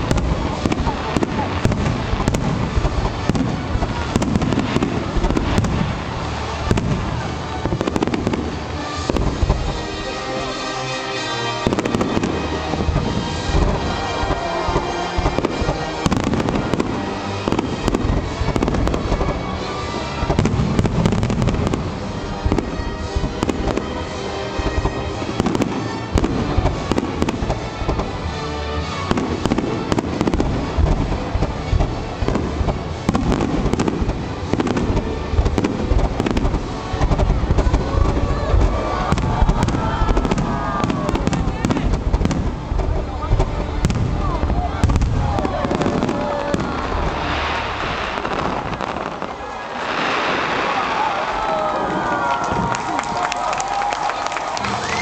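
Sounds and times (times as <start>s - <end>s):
fireworks bangs and crackling: 0.0s - 55.0s
music playing: 0.0s - 55.0s.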